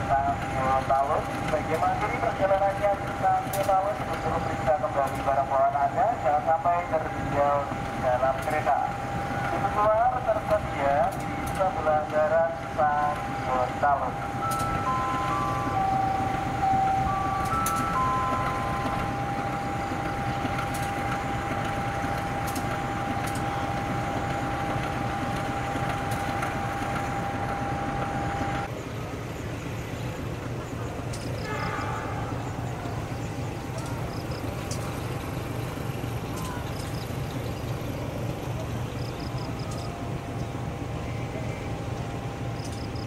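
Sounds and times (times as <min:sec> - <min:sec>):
diesel locomotive idling: 0:00.0 - 0:43.0.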